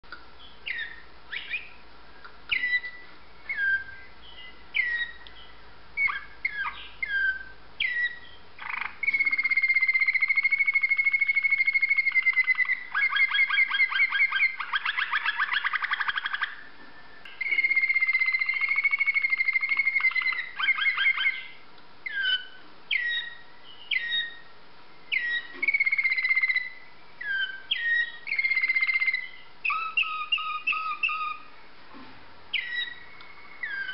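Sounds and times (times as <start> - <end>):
canary singing: 0.4 - 31.6, 32.5 - 33.9.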